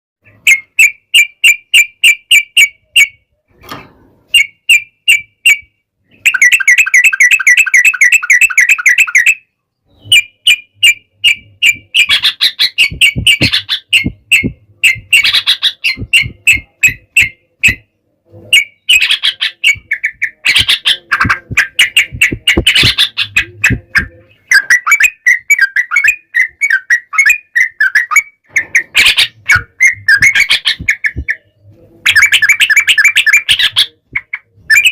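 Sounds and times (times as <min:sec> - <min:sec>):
birds chattering: 0:04.3 - 0:34.9.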